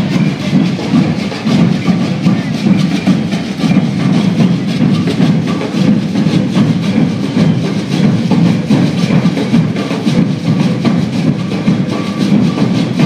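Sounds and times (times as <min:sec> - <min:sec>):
bass drums beating rhythm: 0:00.0 - 0:13.0.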